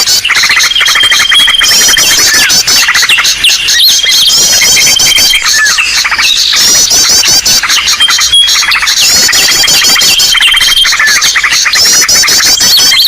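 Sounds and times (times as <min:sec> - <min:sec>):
chorus of small birds calling: 0:00.0 - 0:13.0.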